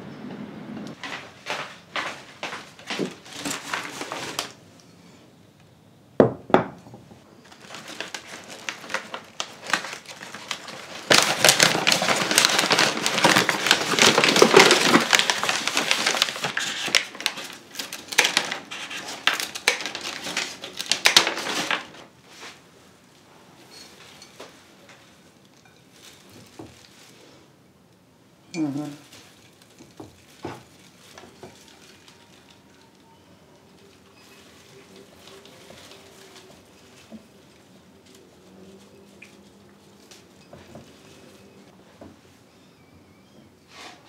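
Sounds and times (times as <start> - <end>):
paper wrapping crinkling: 0.9 - 4.7, 7.4 - 22.6, 23.8 - 27.3, 28.8 - 41.8.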